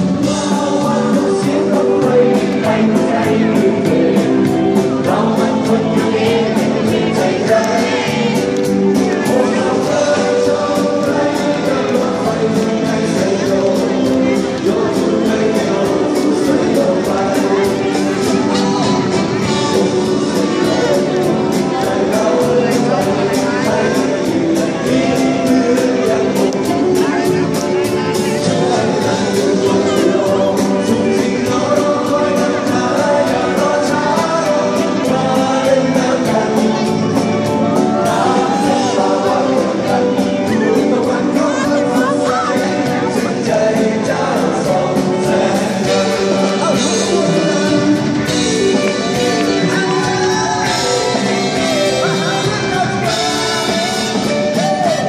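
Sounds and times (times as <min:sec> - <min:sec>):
electric guitar: 0:00.0 - 0:55.0
singer with full band: 0:00.0 - 0:55.0
steady drumbeat: 0:00.0 - 0:55.0.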